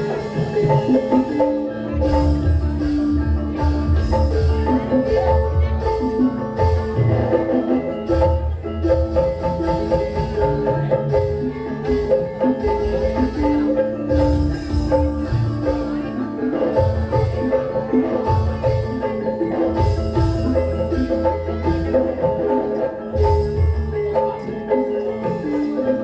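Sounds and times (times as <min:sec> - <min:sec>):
gamelan music over sound system: 0:00.0 - 0:26.0
heavy rhythmic drum beats: 0:00.0 - 0:26.0.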